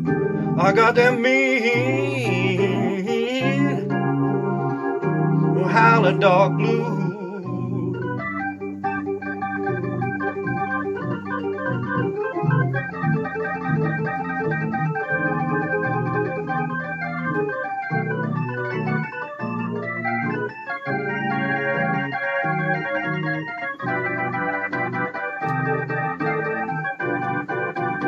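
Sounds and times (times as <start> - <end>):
organ playing slow blues: 0.0 - 28.0.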